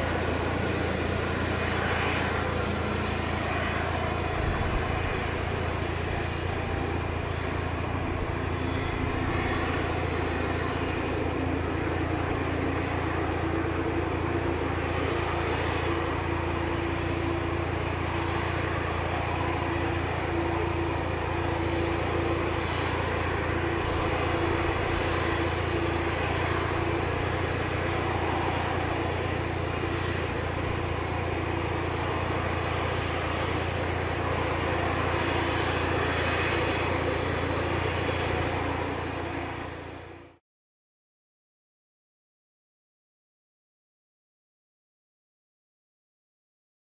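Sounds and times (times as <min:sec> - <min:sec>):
faint steady tones: 0:00.0 - 0:40.4
jet engines running at low power: 0:00.0 - 0:40.4.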